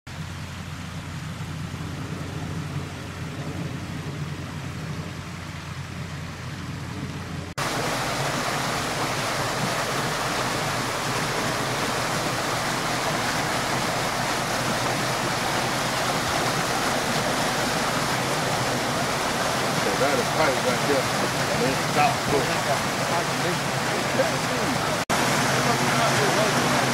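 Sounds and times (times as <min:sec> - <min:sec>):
floodwater rushing through culvert: 0:00.1 - 0:26.9
low steady rumble: 0:00.1 - 0:26.9.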